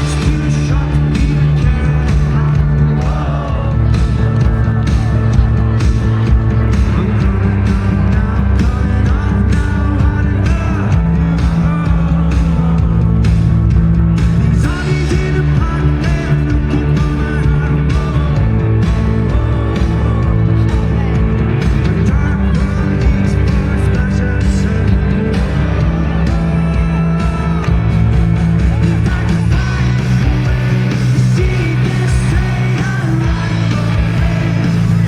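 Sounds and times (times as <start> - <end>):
lead vocal singing: 0.0 - 13.4, 14.1 - 35.0
rock band playing live: 0.0 - 35.0.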